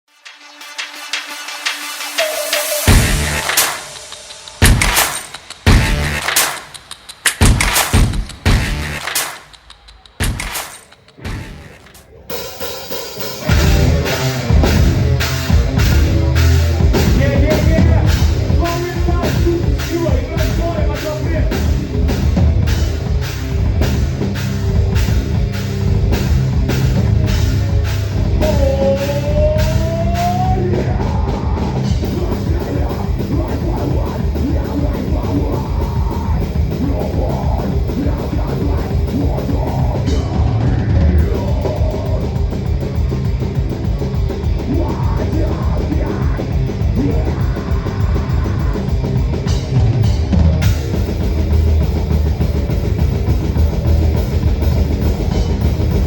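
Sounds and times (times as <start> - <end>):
loud drum kit: 0.4 - 12.0, 13.1 - 56.0
heavy metal band playing live: 2.8 - 6.5, 12.6 - 56.0.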